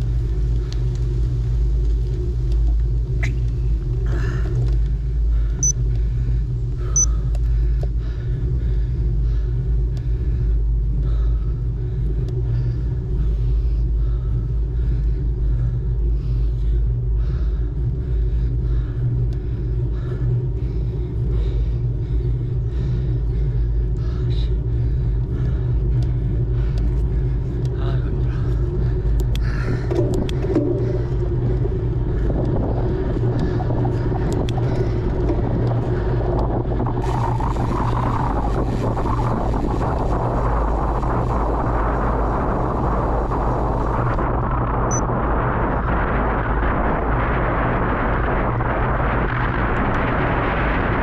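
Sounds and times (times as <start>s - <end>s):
wind buffeting microphone: 7.5s - 51.0s.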